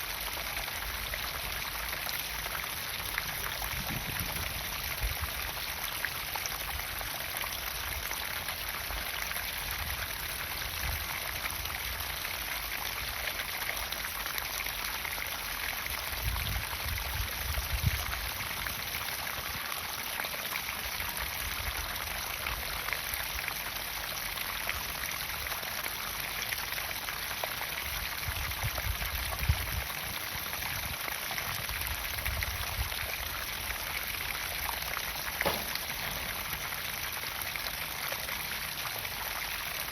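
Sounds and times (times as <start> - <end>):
water splashing into pond: 0.0 - 39.9.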